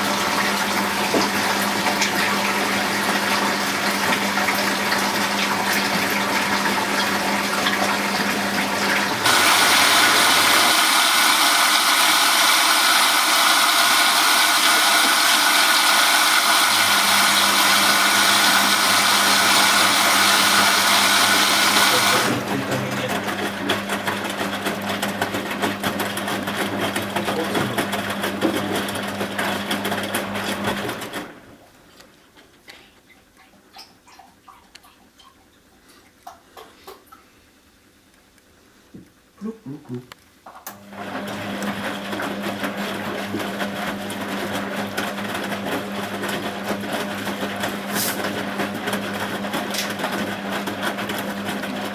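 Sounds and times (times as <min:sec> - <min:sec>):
washing machine filling with water: 0:00.0 - 0:32.2, 0:33.1 - 0:37.4, 0:40.5 - 0:51.9.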